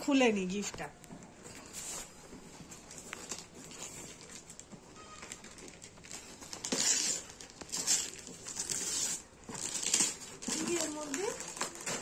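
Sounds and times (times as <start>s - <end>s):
wrapping paper rustling: 1.4s - 12.0s.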